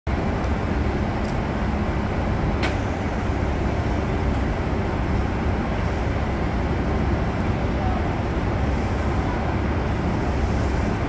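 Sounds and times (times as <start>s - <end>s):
train equipment humming: 0.1s - 11.0s.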